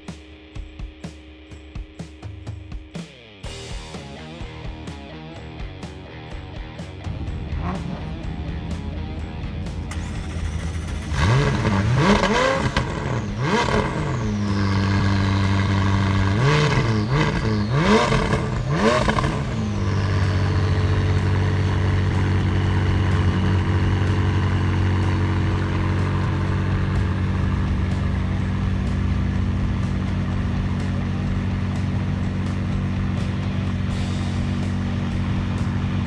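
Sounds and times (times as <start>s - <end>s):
car engine idling: 3.5s - 36.0s
car engine revving: 3.5s - 36.0s.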